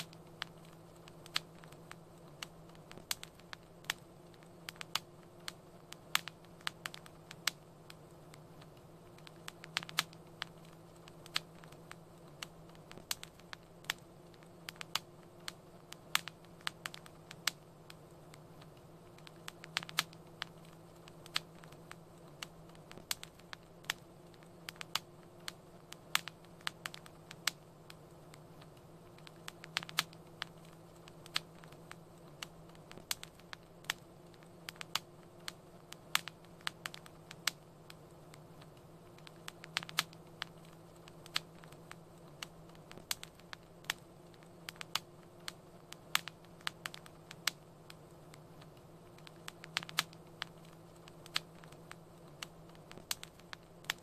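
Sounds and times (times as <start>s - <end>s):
low steady hum: 0.0s - 54.0s
wood fire crackling: 0.0s - 54.0s.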